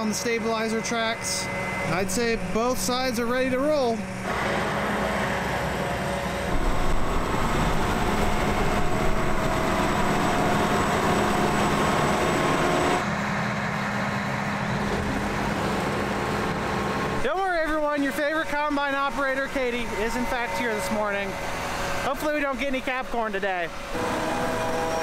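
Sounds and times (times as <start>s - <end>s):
thin steady whine: 0.0s - 14.8s, 15.4s - 25.0s
diesel engine hum: 0.0s - 25.0s.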